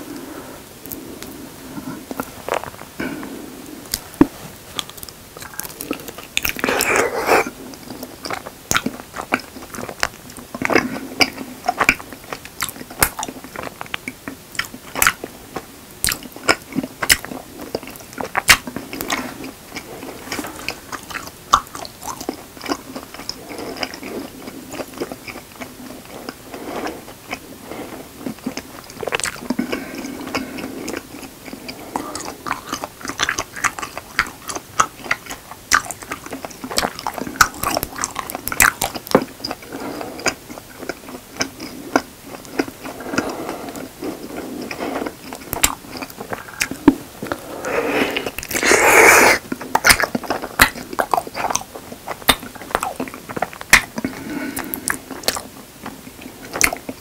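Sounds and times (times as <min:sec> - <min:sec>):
person chewing honeycomb: 0:00.8 - 0:57.0.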